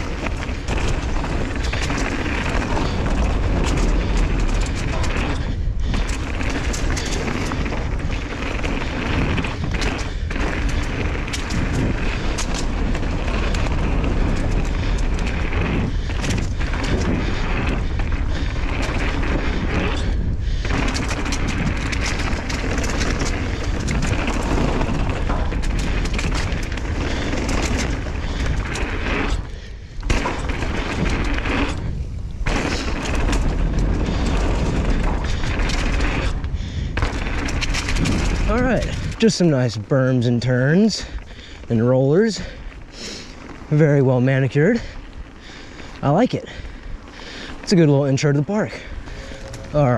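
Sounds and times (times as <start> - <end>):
bike chain and frame rattling: 0.0 - 49.9
tyres on dirt: 0.0 - 49.9
wind buffeting microphone: 0.0 - 49.9.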